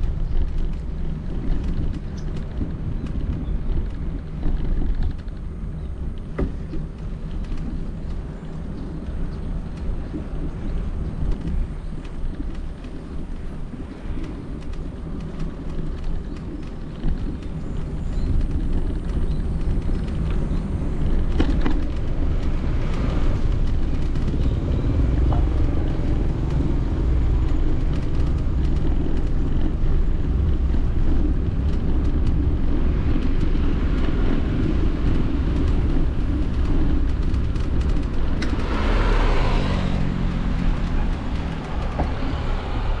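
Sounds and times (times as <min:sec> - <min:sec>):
wind and road noise rumble: 0:00.0 - 0:43.0.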